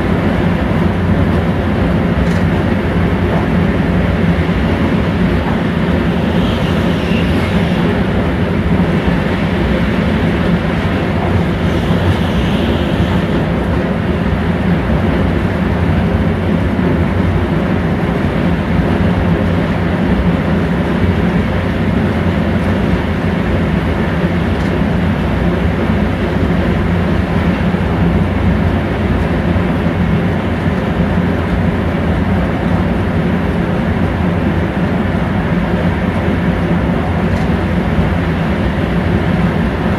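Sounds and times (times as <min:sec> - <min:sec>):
constant low hum: 0:00.0 - 0:39.9
train wheels on rails: 0:00.0 - 0:39.9.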